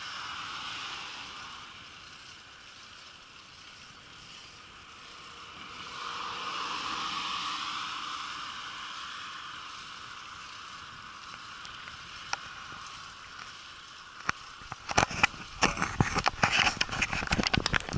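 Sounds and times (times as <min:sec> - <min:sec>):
bicycle rattling over bumps: 0:00.0 - 0:17.9
car tyre noise passing: 0:00.0 - 0:17.9.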